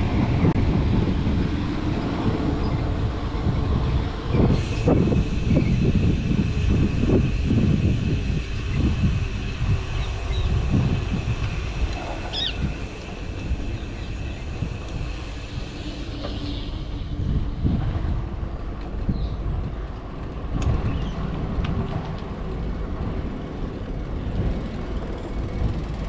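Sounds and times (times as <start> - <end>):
road noise: 0.0 - 26.0
wind rumbling on microphone: 0.0 - 26.0.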